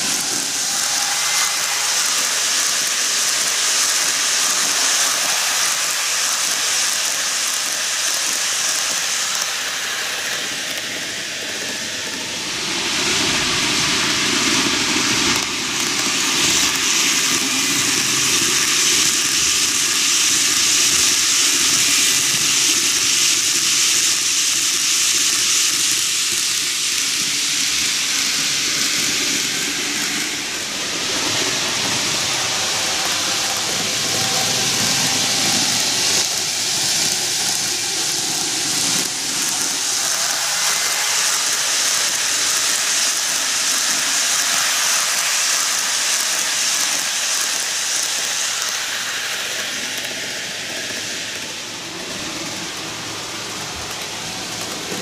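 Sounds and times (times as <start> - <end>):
model train running on track: 0.0 - 55.0.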